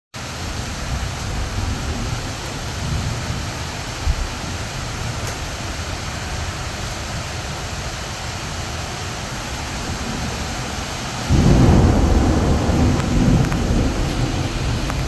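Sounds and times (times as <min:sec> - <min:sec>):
heavy rain pouring: 0:00.2 - 0:15.0
thunder rumbling: 0:00.4 - 0:15.0.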